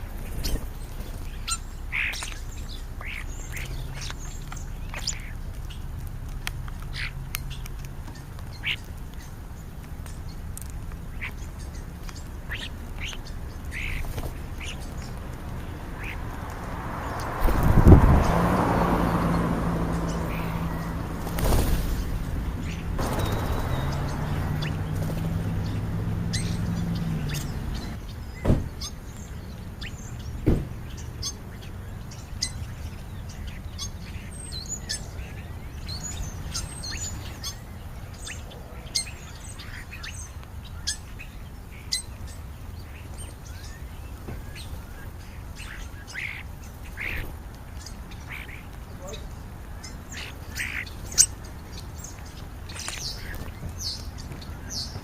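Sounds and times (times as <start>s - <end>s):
starlings chirping: 0.0s - 55.0s.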